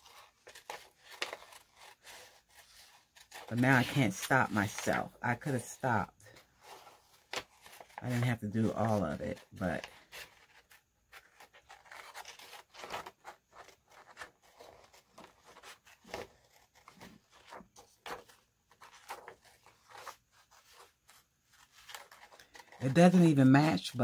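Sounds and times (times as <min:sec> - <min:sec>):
paper rustling and crinkling: 0:00.0 - 0:24.0.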